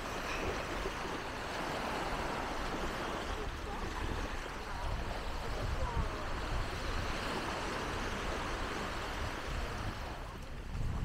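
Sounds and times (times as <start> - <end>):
beach noise wash: 0.0 - 11.0
faint indistinct voices: 1.6 - 11.0.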